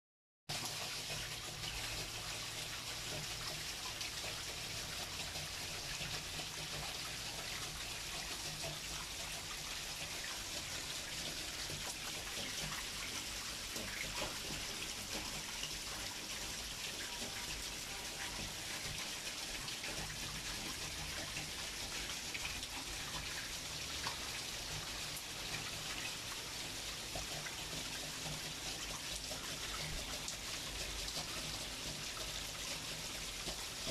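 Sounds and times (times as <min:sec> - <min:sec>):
rain falling: 0:00.5 - 0:33.9.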